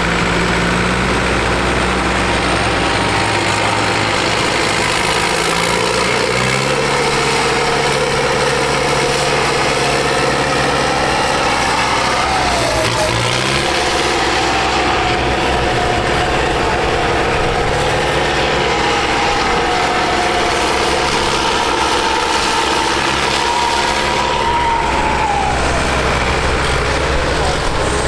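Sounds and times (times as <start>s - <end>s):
tractor engine at high revs: 0.0s - 28.0s.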